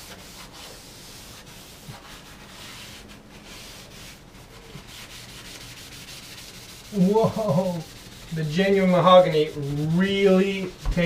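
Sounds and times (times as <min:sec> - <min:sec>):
paper towel wiping wood: 0:00.0 - 0:11.0.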